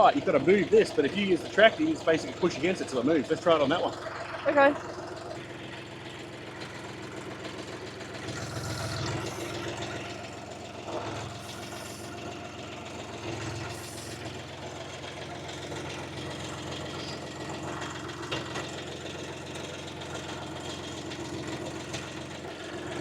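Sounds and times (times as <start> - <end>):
tractor engine idling: 0.0 - 23.0.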